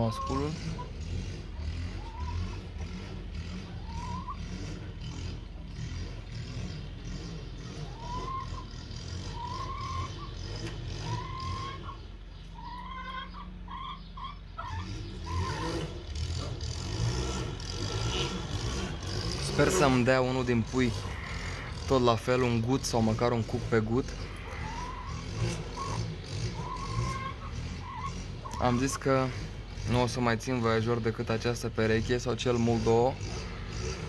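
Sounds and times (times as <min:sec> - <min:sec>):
bird chirping: 0:00.0 - 0:34.0.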